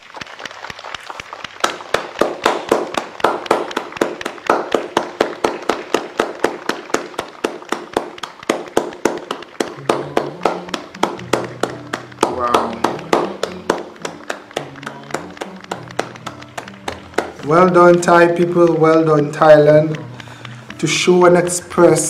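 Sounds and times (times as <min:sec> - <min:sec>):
people clapping: 0:00.0 - 0:22.0.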